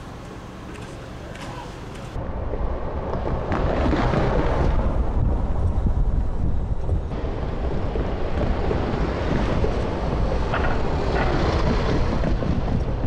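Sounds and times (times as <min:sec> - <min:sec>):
road traffic: 0:00.0 - 0:13.0
wind rumble on microphone: 0:02.0 - 0:13.0.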